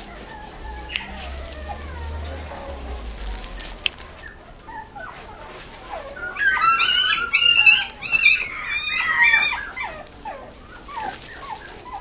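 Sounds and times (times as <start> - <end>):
puppy whining and yelping: 0.0 - 12.0.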